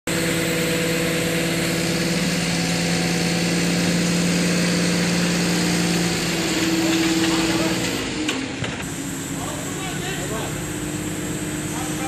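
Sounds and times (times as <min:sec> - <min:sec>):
crane engine running: 0:00.1 - 0:12.0.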